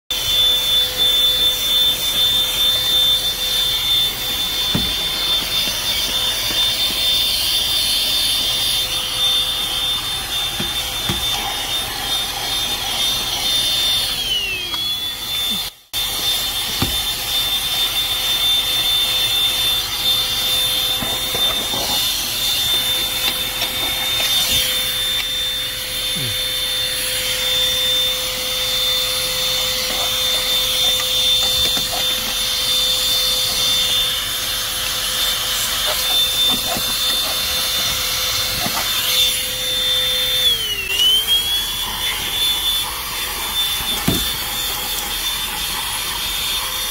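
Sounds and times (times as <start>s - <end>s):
car vacuum motor whine: 0.1s - 46.9s.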